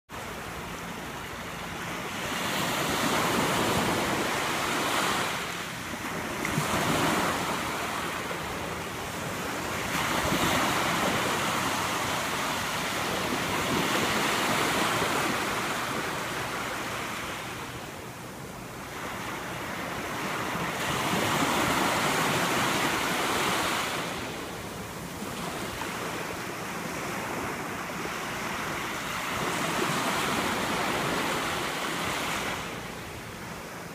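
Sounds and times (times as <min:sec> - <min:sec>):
small waves breaking on shore: 0:00.2 - 0:33.9.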